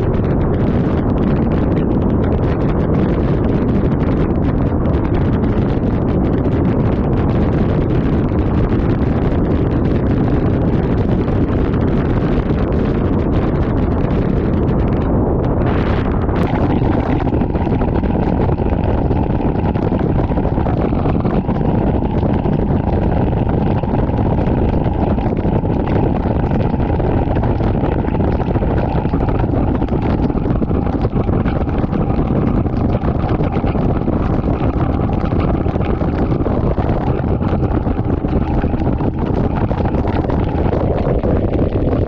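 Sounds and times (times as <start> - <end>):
outboard motor drone: 0.0 - 42.0
wind buffeting microphone: 0.0 - 42.0.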